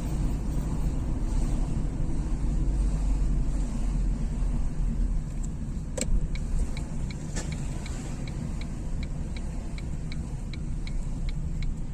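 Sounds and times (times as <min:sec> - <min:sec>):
car road and engine rumble: 0:00.0 - 0:11.9
turn signal ticking: 0:00.0 - 0:11.9.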